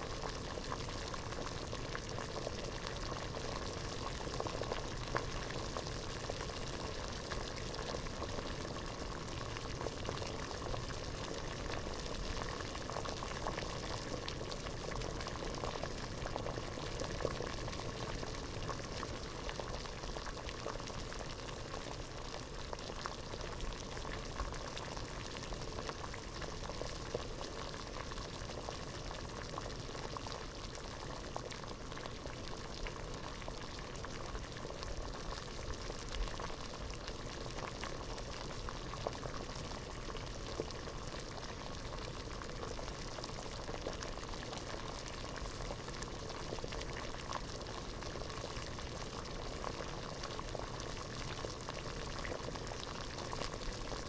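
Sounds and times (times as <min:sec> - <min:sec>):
water boiling in a pot: 0:00.0 - 0:54.0.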